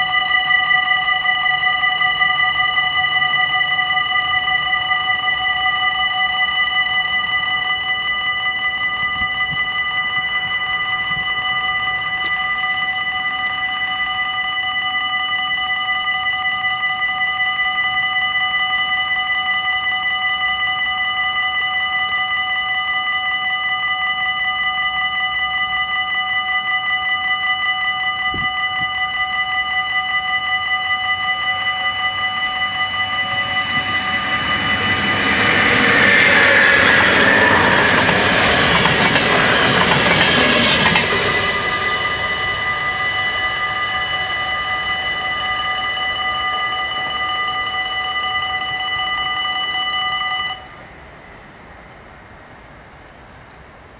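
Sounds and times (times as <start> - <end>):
level-crossing bells ringing: 0.0 - 51.0
train passing: 0.0 - 53.9.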